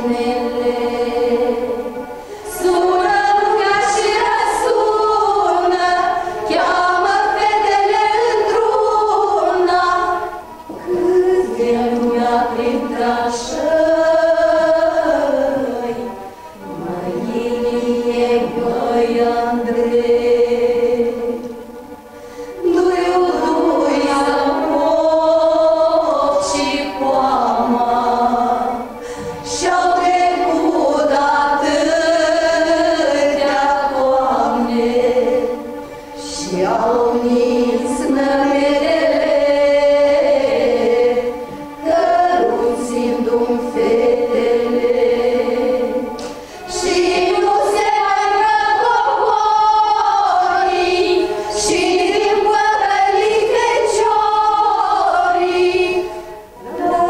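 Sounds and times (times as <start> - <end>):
choir singing long notes: 0.0 - 57.0.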